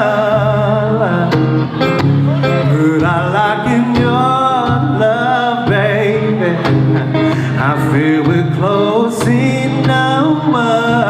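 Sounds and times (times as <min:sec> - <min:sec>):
person singing: 0:00.0 - 0:11.0
strummed acoustic guitar: 0:00.0 - 0:11.0.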